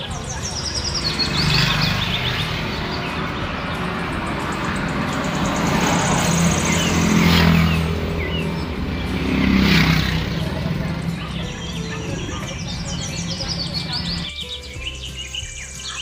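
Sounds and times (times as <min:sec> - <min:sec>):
vehicle engine running: 0:00.0 - 0:14.3
vehicles passing by: 0:00.0 - 0:16.0.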